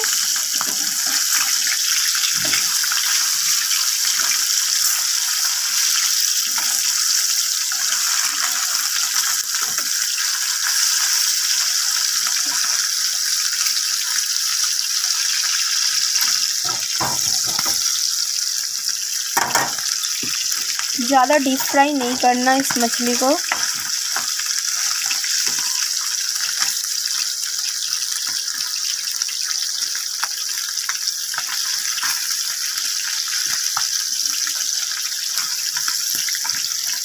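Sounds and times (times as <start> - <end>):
fish sizzling in oil: 0.0 - 37.0.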